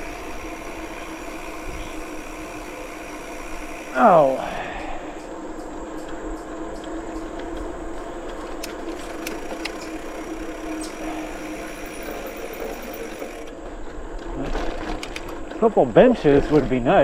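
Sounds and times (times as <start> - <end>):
bicycle rattle: 0.0 - 17.0
bicycle tyres humming: 0.0 - 17.0.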